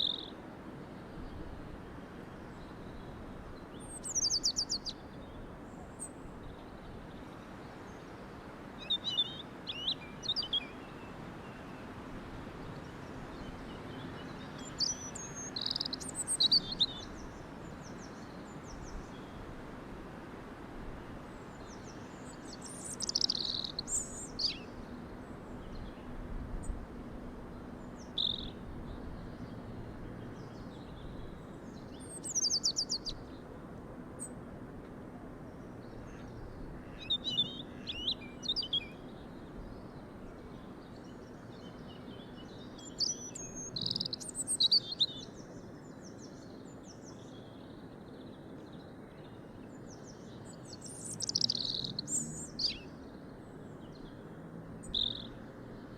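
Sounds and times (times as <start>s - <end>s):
small birds chirping: 0.0s - 0.3s, 2.6s - 8.2s, 8.8s - 12.0s, 12.6s - 19.5s, 21.4s - 26.8s, 27.8s - 33.5s, 35.6s - 55.9s
faint background hiss: 0.0s - 55.9s.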